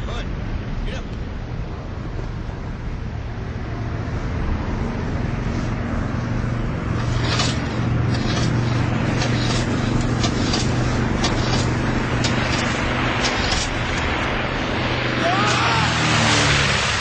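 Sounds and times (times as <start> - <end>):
engine-like rumble: 0.0 - 17.0.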